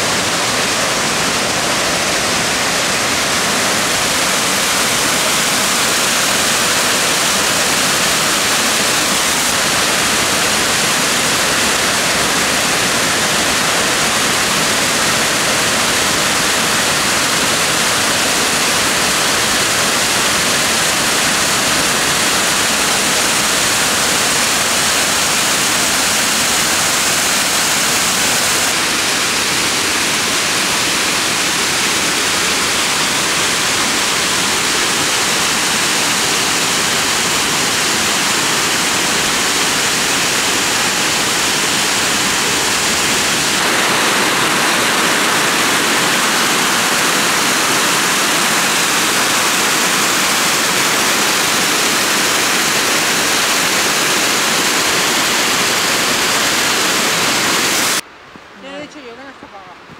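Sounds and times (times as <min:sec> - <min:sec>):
waterfall pouring into pool: 0:00.0 - 0:58.0.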